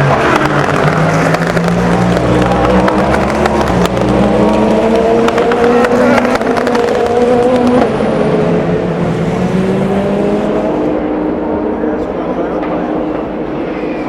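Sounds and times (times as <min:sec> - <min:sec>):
engine crackles: 0:00.0 - 0:14.0
race car engine accelerating: 0:00.0 - 0:14.0.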